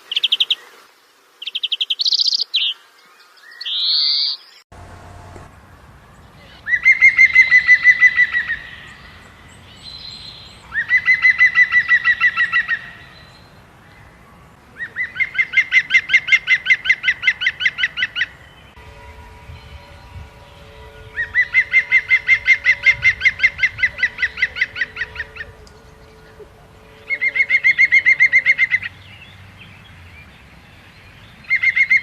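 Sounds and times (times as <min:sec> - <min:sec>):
bird singing rapid trill: 0:03.4 - 0:32.0.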